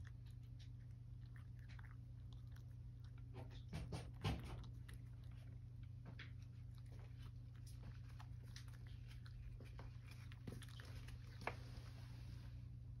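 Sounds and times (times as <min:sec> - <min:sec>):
cat chewing and licking: 0:00.0 - 0:12.4
steady low hum: 0:00.0 - 0:13.0.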